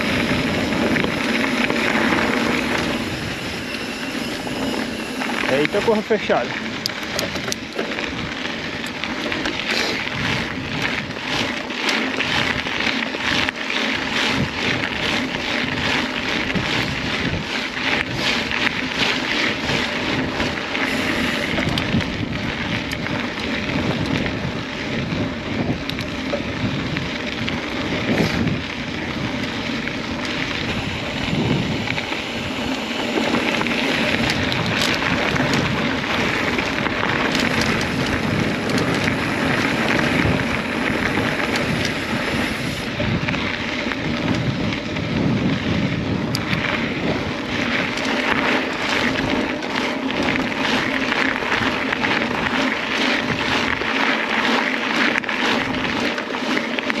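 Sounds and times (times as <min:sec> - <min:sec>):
wind on microphone: 0:00.0 - 0:11.6, 0:12.2 - 0:56.2
bike rattles and clicks: 0:00.0 - 0:57.0
bike tyres on dirt trail: 0:00.0 - 0:57.0.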